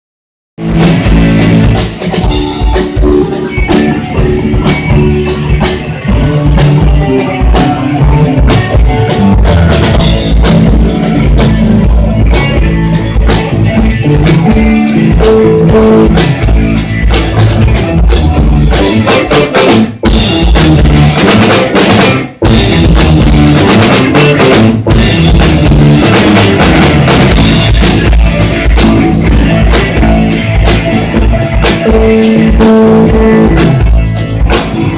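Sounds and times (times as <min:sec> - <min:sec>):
driving drum kit: 0:00.6 - 0:34.9
guitar: 0:00.6 - 0:34.9
rock band playing live: 0:00.6 - 0:34.9.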